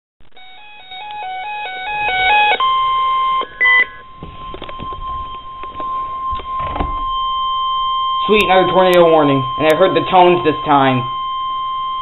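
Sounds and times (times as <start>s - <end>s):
steady warning alarm tone: 0.4s - 12.0s
two-tone beeping: 0.4s - 12.0s.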